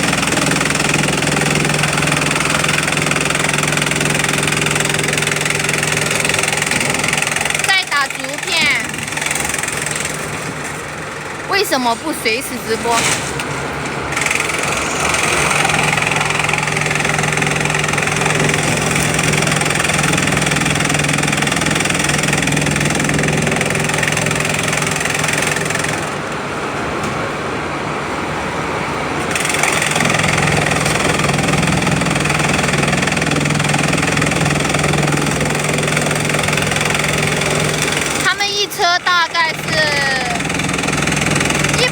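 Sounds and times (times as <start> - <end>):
chipping machine humming: 0.0 - 41.9.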